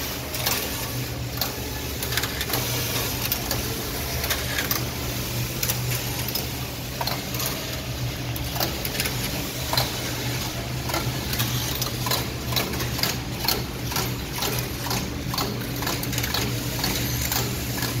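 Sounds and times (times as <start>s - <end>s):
knitting machine clicking and clacking: 0.0s - 18.0s
knitting machine humming: 0.0s - 18.0s.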